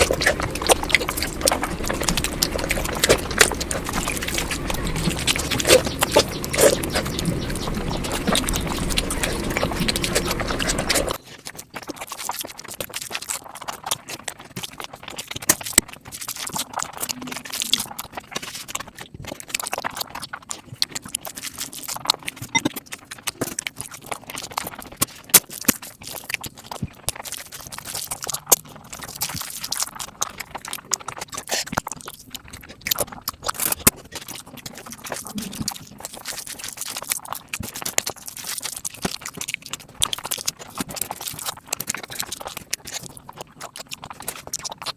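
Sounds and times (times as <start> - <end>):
wet chewing and mouth clicks: 0.0 - 44.9.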